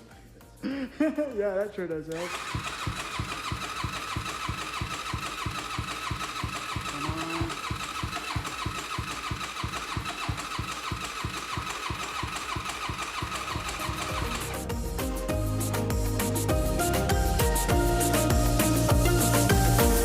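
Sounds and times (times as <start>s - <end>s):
single-cylinder engine running: 2.1s - 20.0s.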